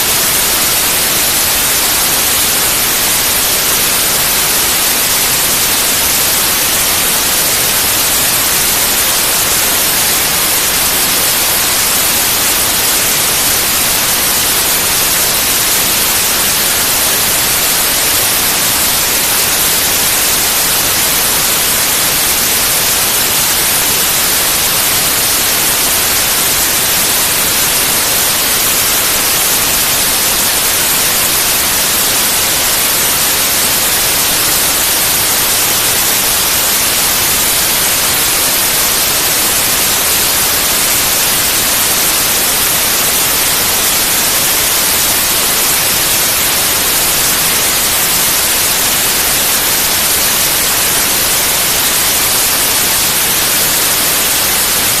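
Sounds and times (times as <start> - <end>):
loud white noise hiss: 0.0 - 55.0.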